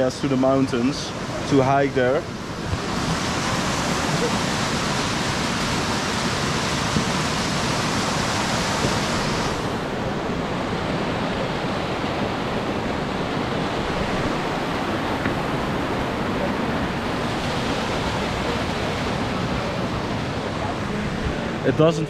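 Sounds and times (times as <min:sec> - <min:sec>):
fast-flowing stream water: 0:00.0 - 0:22.0.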